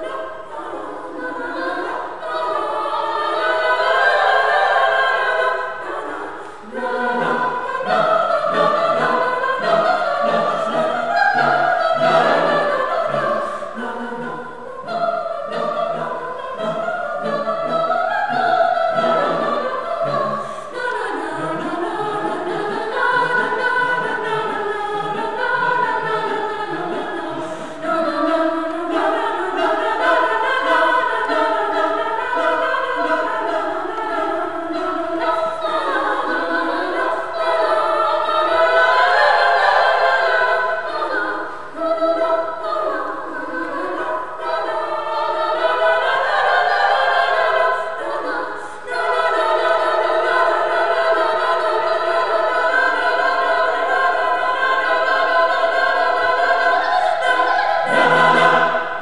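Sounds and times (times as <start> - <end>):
mixed choir singing a cappella: 0.0 - 59.0.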